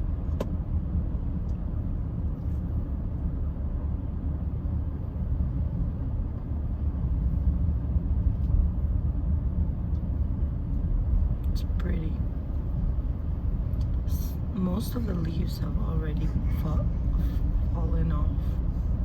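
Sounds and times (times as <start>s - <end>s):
car driving interior rumble: 0.0s - 19.0s.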